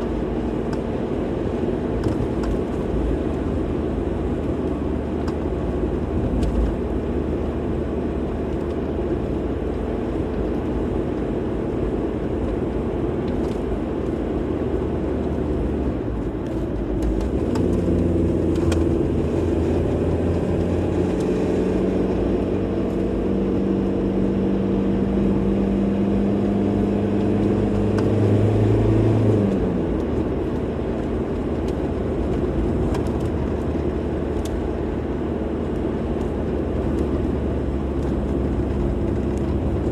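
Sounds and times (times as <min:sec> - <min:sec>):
car engine hum: 0:00.0 - 0:39.9
road and tyre noise: 0:00.0 - 0:39.9.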